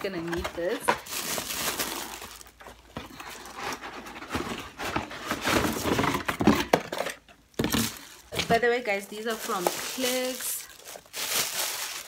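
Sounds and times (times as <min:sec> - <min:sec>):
plastic wrapping crinkling: 0:00.1 - 0:12.0
cardboard box rustling: 0:00.5 - 0:12.0.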